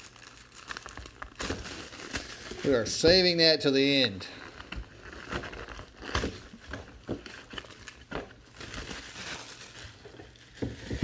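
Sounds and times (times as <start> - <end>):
plastic and foil wrapping crinkling: 0.0 - 11.0.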